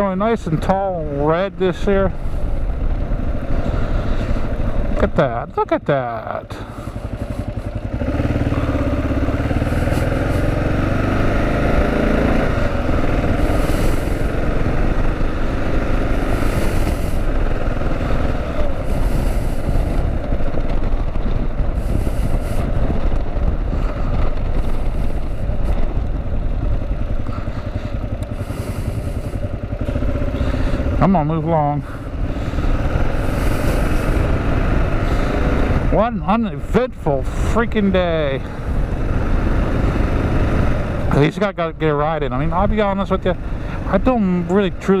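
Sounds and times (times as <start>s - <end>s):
motorcycle engine accelerating: 0.0s - 45.0s
wind noise on microphone: 6.5s - 45.0s.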